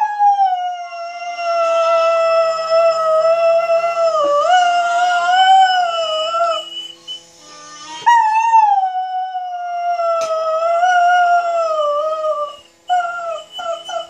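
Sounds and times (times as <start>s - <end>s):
dog howling: 0.0s - 6.8s, 7.9s - 14.0s.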